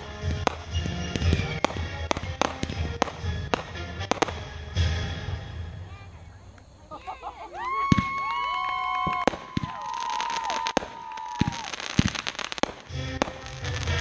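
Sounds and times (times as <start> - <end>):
firework bangs and crackling: 0.0 - 6.8, 7.6 - 14.0
whistling fireworks: 0.0 - 14.0.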